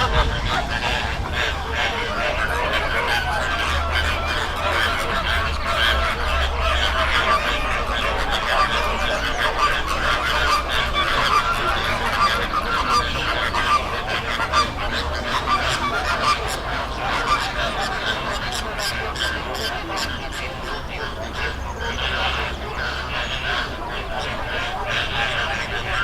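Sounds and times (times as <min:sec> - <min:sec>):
flamingos honking and calling: 0:00.0 - 0:26.0
steady low rumble: 0:00.0 - 0:26.0.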